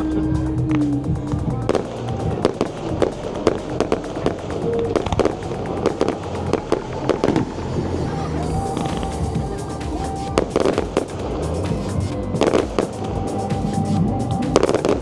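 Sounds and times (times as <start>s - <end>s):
fireworks bangs and crackles: 0.7s - 15.0s.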